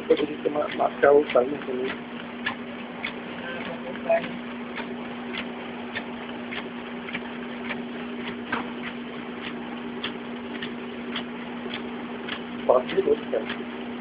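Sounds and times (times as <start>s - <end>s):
regular clicking of sheets feeding: 0.0s - 14.0s
scanner motor hum: 0.0s - 14.0s.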